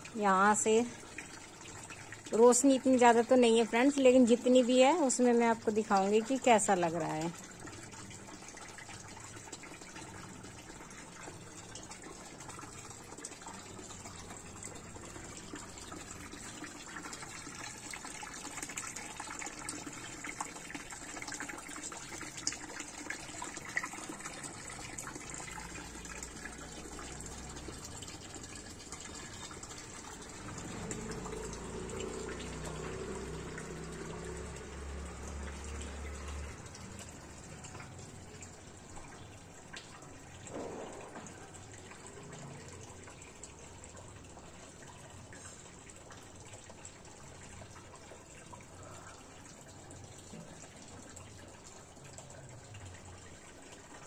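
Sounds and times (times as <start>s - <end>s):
water falling into a basin: 0.0s - 54.0s.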